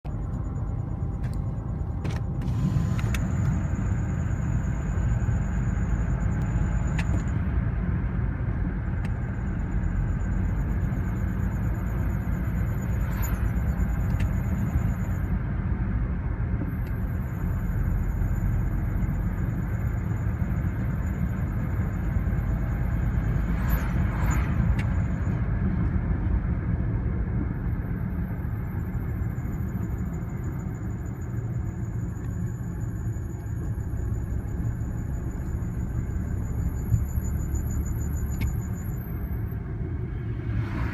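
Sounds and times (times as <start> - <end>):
road and engine rumble: 0.0 - 40.9.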